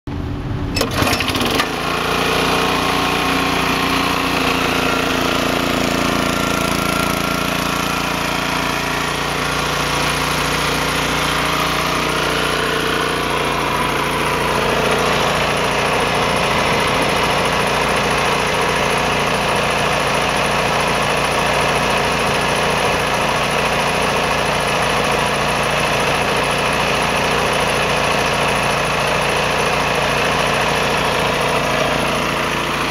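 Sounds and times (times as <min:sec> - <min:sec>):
air compressor engine running: 0:00.8 - 0:32.9.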